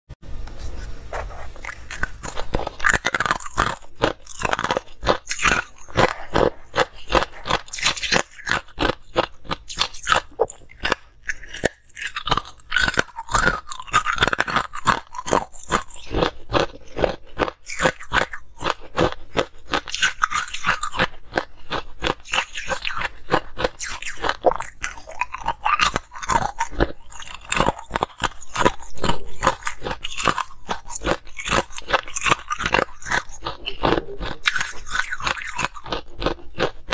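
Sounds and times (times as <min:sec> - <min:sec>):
person crunching ice: 0:01.2 - 0:36.9.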